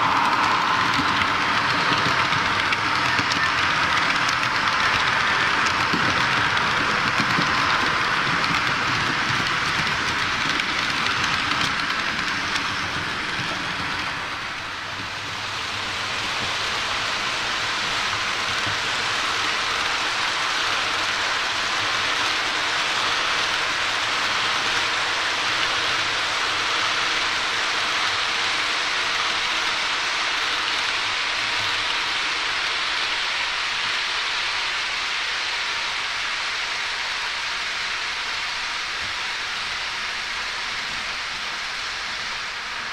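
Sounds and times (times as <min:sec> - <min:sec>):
model trains hissing on track: 0:00.0 - 0:42.9.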